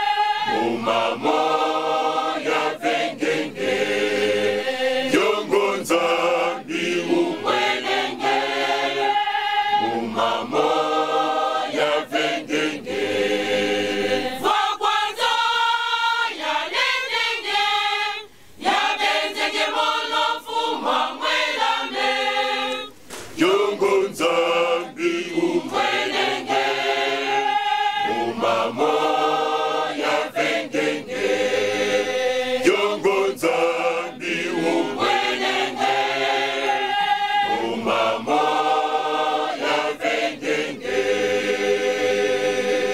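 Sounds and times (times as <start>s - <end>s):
mixed choir singing a cappella: 0.0s - 42.9s.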